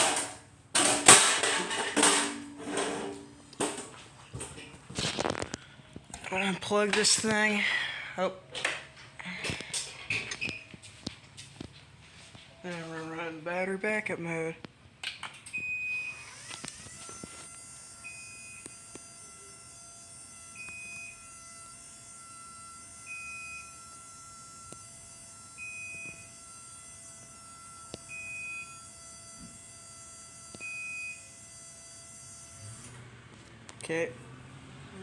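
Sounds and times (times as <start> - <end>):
garage door motor whine: 0.0 - 9.2, 15.2 - 35.0.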